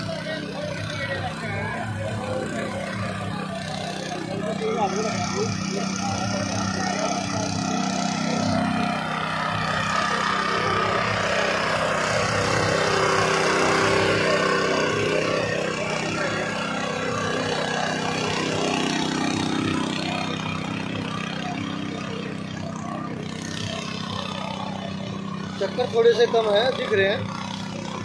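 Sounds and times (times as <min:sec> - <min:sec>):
tiller engine running: 0:00.0 - 0:28.0.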